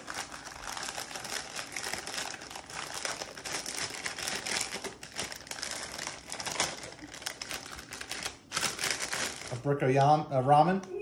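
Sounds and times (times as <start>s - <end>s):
plastic wrapper crinkling: 0.0s - 10.2s.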